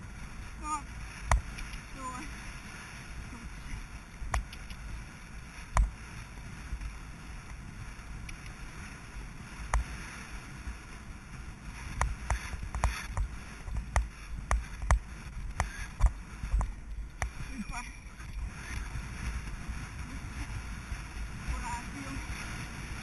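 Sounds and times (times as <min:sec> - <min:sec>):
wind rushing on microphone: 0:00.0 - 0:23.0.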